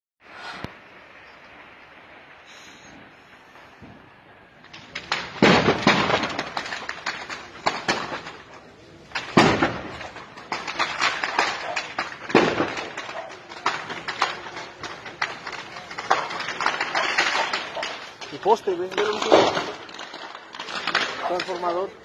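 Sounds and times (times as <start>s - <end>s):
firework crackling: 0.3s - 22.0s
fireworks cracks and bangs: 0.5s - 22.0s.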